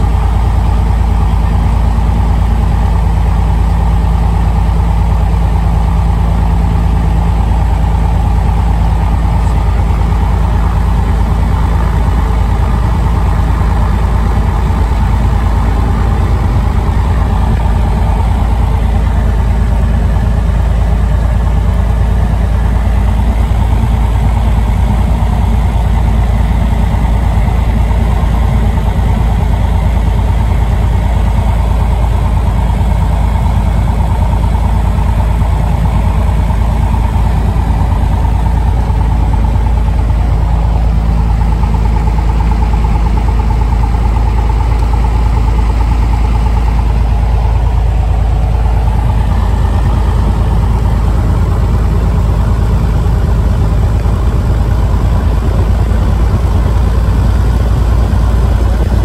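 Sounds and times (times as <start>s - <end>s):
aircraft propeller engine running: 0.0s - 59.0s.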